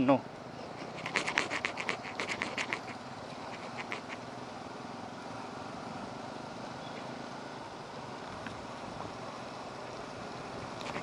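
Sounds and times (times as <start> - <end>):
motorcycle engine at low speed: 0.0 - 11.0
road and wind noise: 0.0 - 11.0.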